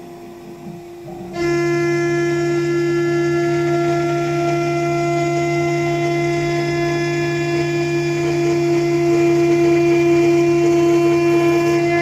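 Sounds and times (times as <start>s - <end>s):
metal cutting noise: 0.0s - 12.0s
spindle high-pitched whine: 0.0s - 12.0s.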